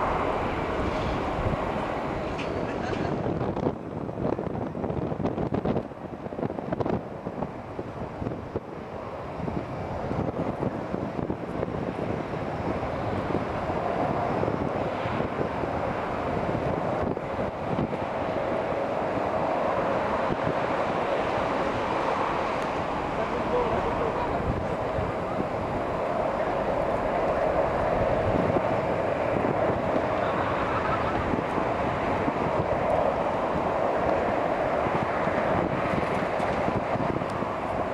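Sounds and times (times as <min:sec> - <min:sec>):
electric train rumbling on rails: 0:00.0 - 0:37.9
wind buffeting microphone: 0:00.0 - 0:37.9.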